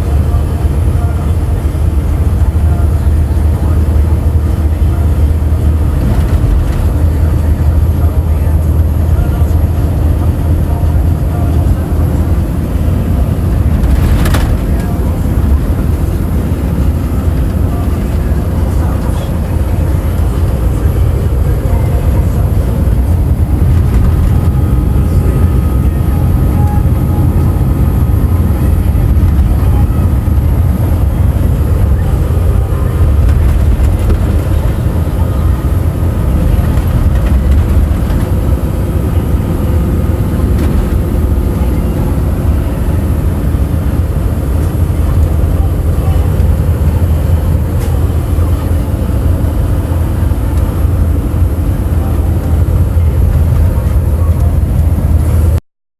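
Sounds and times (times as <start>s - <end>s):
truck engine and road rumble: 0.0s - 55.7s.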